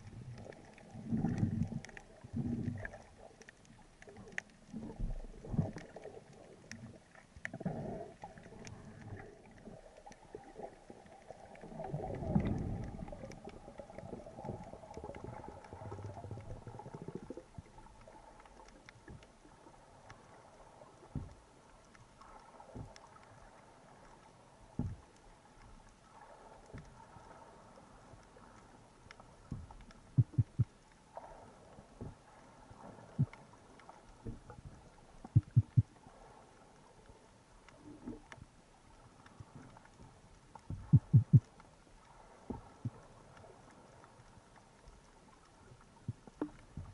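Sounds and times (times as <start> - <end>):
muffled underwater water rushing: 0.0 - 46.9.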